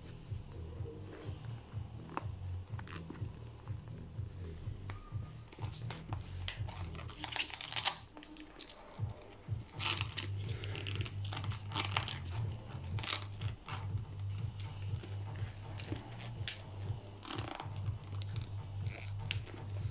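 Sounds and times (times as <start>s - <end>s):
crinkling handling noise: 0.0s - 19.9s
low steady hum: 0.0s - 19.9s.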